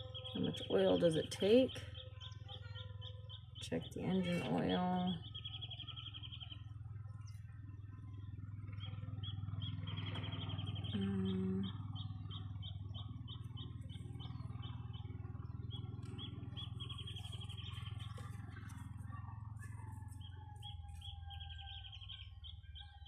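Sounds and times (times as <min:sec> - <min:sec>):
bird high chirps: 0:00.0 - 0:07.4, 0:08.7 - 0:23.0
steady low hum: 0:00.0 - 0:23.0.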